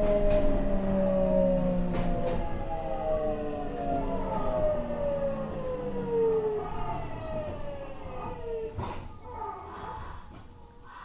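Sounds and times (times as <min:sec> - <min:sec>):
train motors whining: 0:00.0 - 0:10.6
train wheels rumbling on rails: 0:00.0 - 0:11.0.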